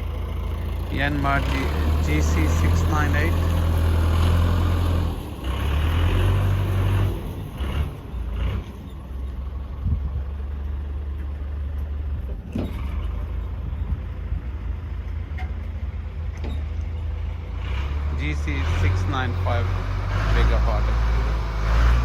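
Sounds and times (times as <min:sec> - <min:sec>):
engine running with low hum: 0:00.0 - 0:22.0.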